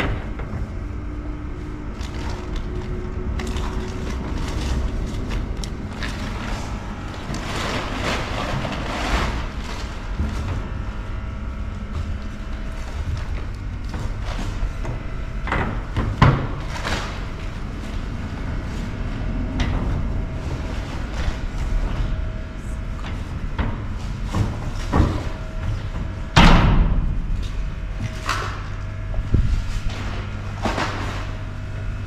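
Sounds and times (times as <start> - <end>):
knocks and rustling in bins: 0.0 - 32.0
steady low hum: 0.0 - 32.0.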